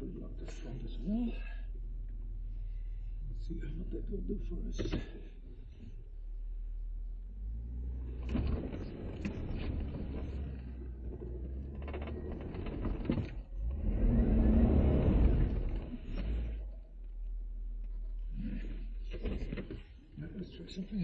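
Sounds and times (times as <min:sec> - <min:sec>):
engine working under load: 0:00.0 - 0:21.0.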